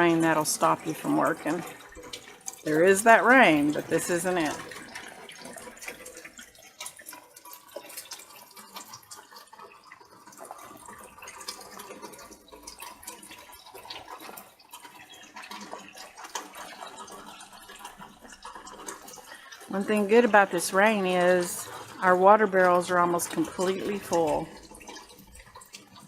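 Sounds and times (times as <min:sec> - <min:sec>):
light rain pattering: 0:00.0 - 0:26.0.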